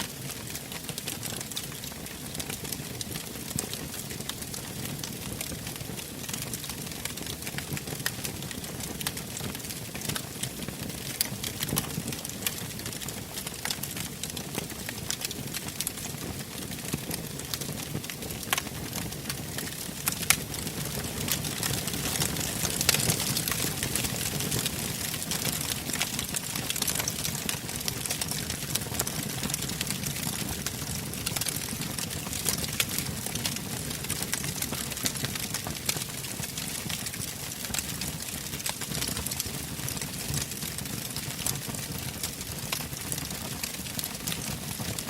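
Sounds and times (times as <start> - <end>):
wood fire crackling: 0.0 - 45.0
fire popping: 0.2 - 45.0.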